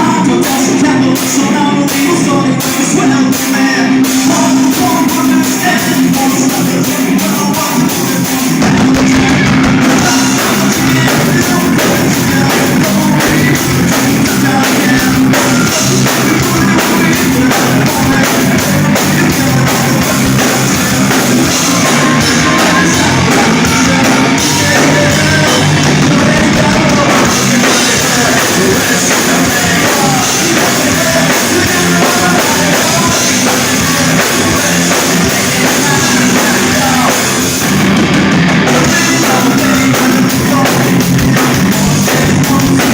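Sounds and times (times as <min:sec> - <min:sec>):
distorted guitars: 0:00.0 - 0:42.9
drum kit: 0:00.0 - 0:42.9
live rock band playing: 0:00.0 - 0:42.9
person singing: 0:00.0 - 0:42.9.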